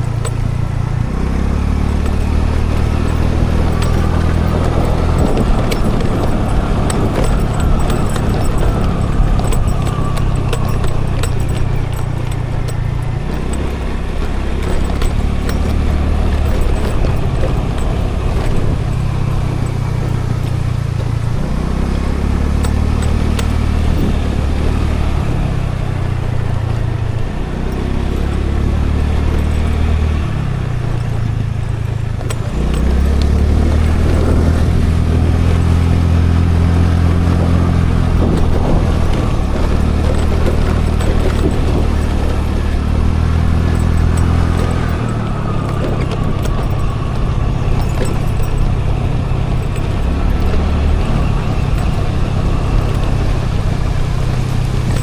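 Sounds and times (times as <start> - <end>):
road and wind noise: 0.0 - 55.0
scooter engine running: 0.0 - 55.0.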